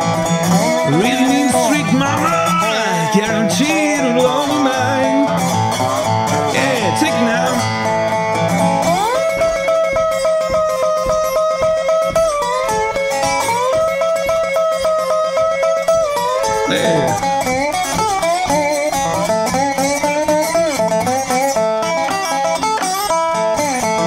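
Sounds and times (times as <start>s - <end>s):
acoustic blues slide guitar: 0.0s - 24.0s.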